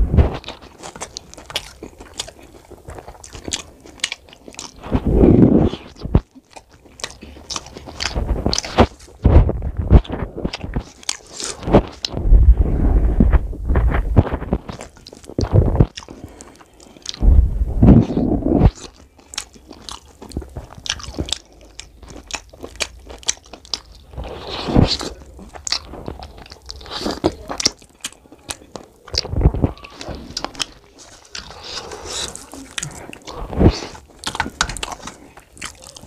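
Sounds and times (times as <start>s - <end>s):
chewing with wet mouth smacks: 0.4s - 12.2s, 14.2s - 17.3s, 18.0s - 36.0s.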